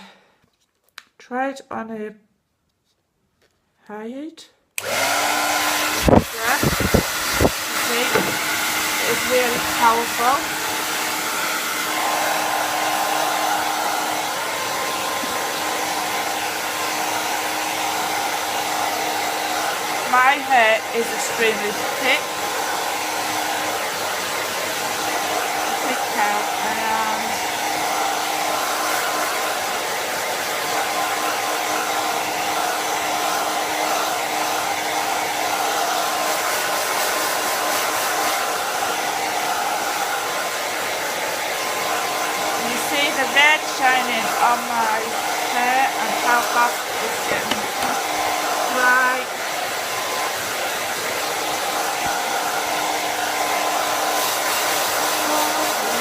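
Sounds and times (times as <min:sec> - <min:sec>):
hair dryer blowing air: 0:04.8 - 0:56.0.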